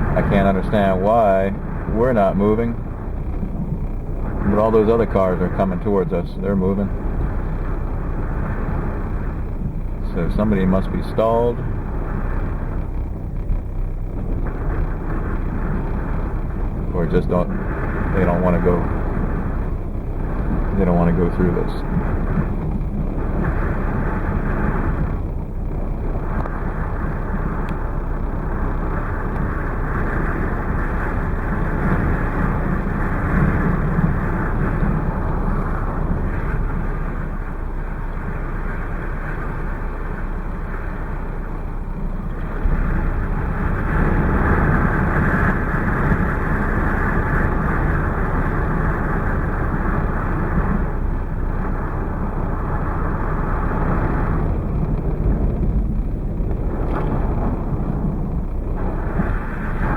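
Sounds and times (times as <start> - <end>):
blizzard wind gusting: 0.0 - 59.9
steady rumble: 0.0 - 59.9.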